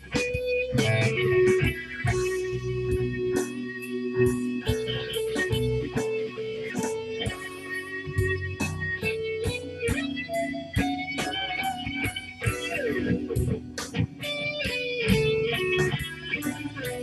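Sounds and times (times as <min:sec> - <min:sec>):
electric guitar playing blues: 0:00.0 - 0:17.0.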